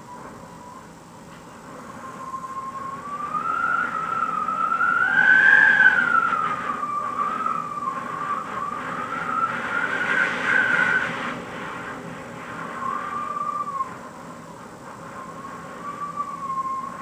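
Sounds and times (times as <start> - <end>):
wind whistling through window: 0.0 - 17.0.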